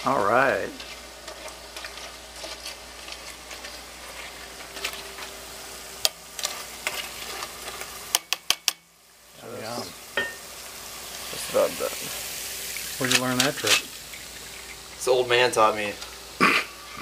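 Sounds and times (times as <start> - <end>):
chips sizzling in hot oil: 0.0 - 17.0.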